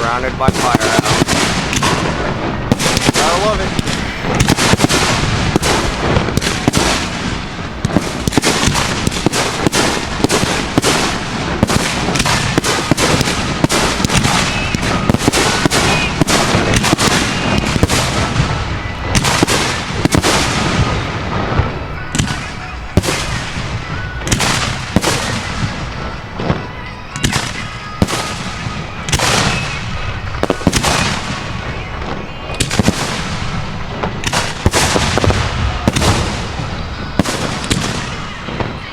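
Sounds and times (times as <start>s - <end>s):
fireworks booming: 0.0s - 38.9s.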